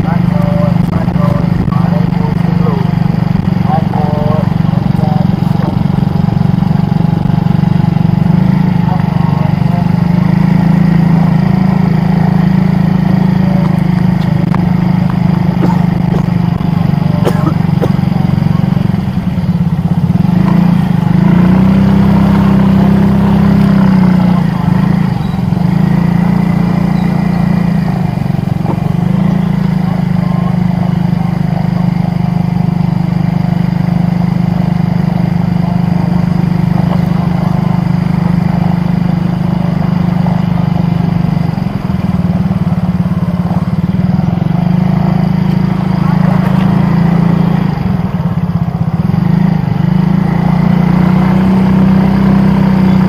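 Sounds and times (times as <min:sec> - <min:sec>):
street noise: 0:00.0 - 0:53.0
vehicle engine droning: 0:00.0 - 0:53.0.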